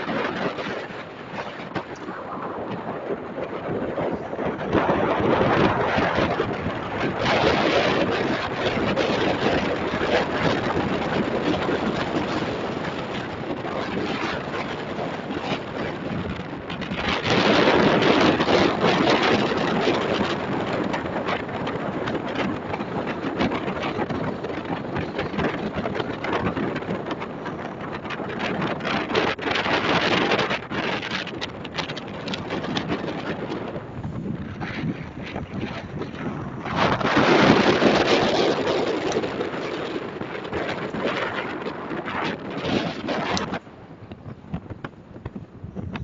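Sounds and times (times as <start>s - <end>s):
strong wind gusts: 0.0s - 46.0s
wind buffeting microphone: 0.0s - 46.0s.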